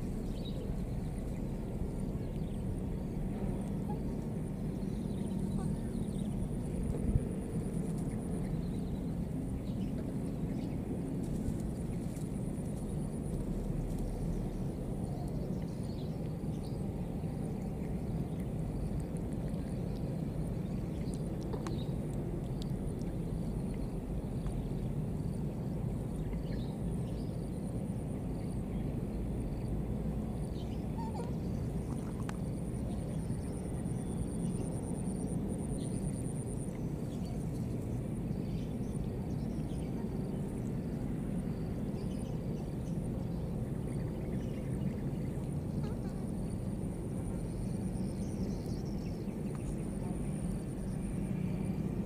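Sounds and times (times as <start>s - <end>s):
low outdoor rumble: 0.0s - 52.0s.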